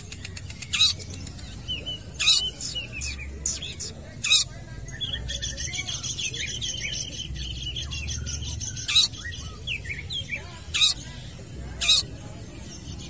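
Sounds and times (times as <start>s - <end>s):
bird chattering and warbling: 0.0s - 13.0s.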